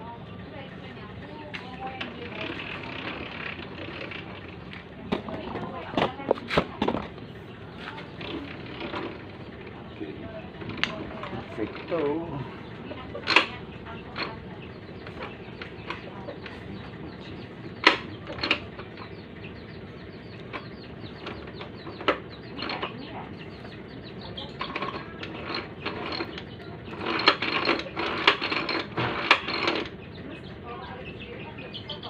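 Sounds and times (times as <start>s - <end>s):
ice-shaving machine clicks and knocks: 1.5s - 7.2s, 7.8s - 9.9s, 10.5s - 30.0s.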